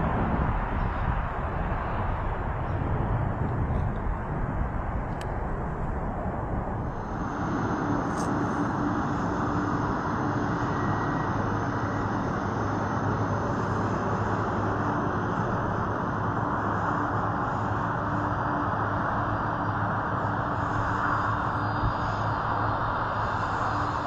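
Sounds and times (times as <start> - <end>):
constant low hum: 0.0 - 24.0
jet engines running: 0.0 - 24.0.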